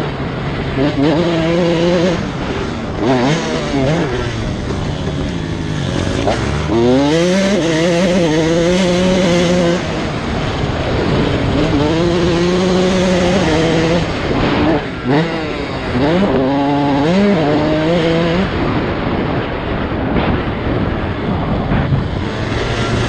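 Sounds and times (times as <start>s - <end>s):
motocross bike engine revving: 0.0s - 19.4s, 20.1s - 23.0s.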